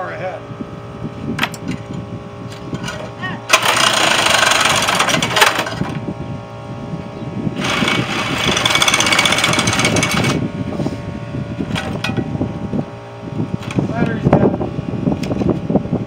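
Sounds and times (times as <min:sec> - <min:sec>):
cordless power tool running: 0:01.3 - 0:15.8.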